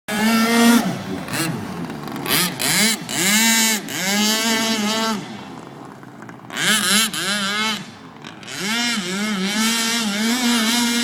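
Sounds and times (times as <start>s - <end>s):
toy boat motor whining: 0.1s - 11.0s.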